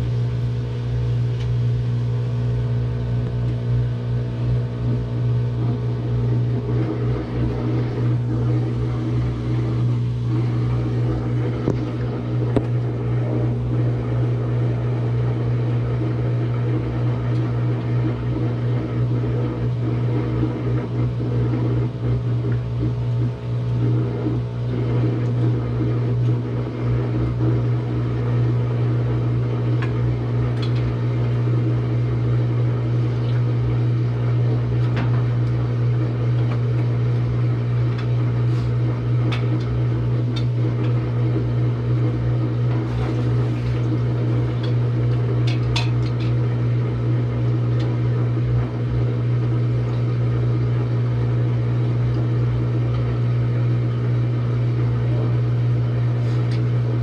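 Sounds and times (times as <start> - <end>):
washing machine spin cycle hum: 0.0 - 57.0.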